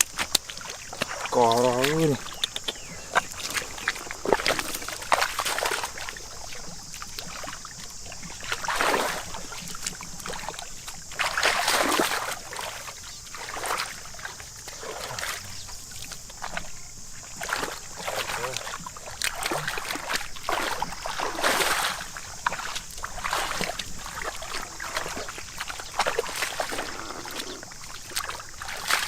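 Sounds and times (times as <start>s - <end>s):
shallow water sloshing and splashing: 0.0s - 29.0s.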